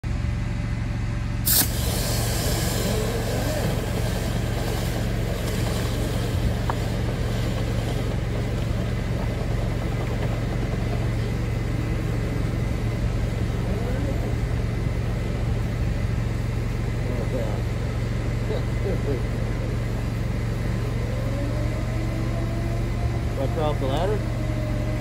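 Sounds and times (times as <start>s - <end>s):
low machine hum: 0.0s - 25.0s
rushing air through duct: 1.4s - 25.0s.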